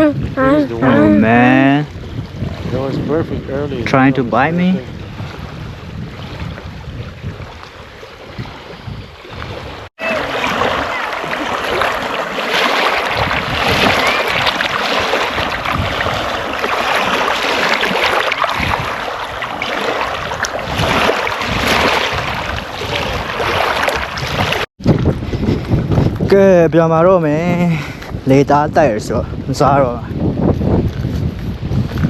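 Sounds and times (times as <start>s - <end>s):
water rushing past boat: 0.0s - 26.2s
wind rushing: 0.0s - 32.0s.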